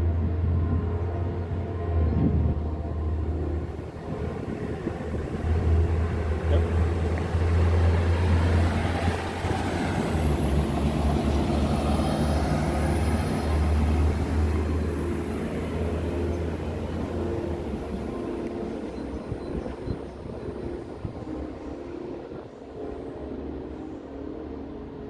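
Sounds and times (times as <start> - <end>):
diesel train engine drone: 0.0 - 25.0.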